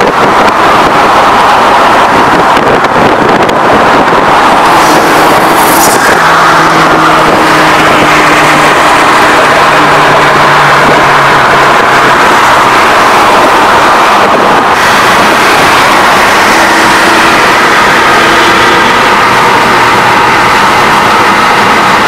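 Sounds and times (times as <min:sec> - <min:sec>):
car engine and exhaust: 0:00.0 - 0:22.0
road noise: 0:00.0 - 0:22.0
wind noise: 0:00.0 - 0:22.0.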